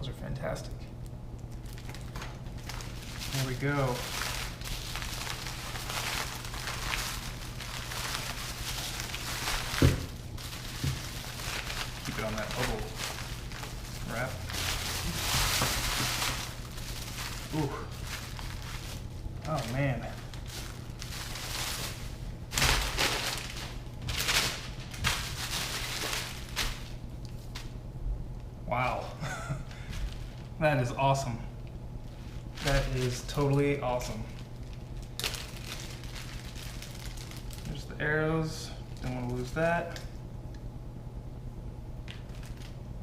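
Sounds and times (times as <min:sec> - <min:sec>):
bubble wrap crinkling: 0:01.0 - 0:27.8, 0:29.2 - 0:30.6, 0:31.6 - 0:38.0, 0:42.0 - 0:43.0.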